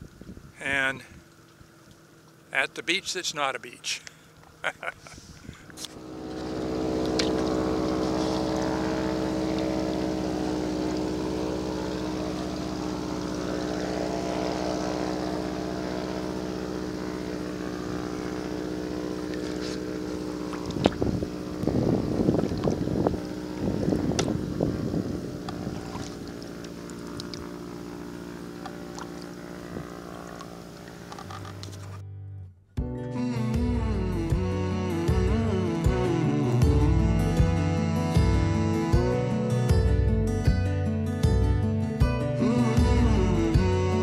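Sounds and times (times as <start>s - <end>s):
motorboat engine droning: 0.0s - 44.0s.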